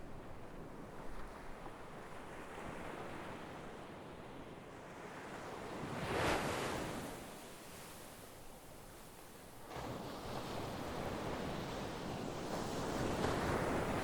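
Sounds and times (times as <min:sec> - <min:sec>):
sea waves breaking on shore: 0:00.4 - 0:08.5, 0:09.4 - 0:14.0.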